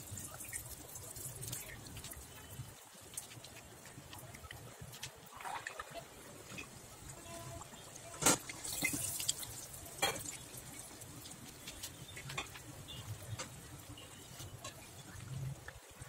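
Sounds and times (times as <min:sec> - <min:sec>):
hot oil sizzling and popping: 0:00.0 - 0:05.2, 0:06.5 - 0:16.0.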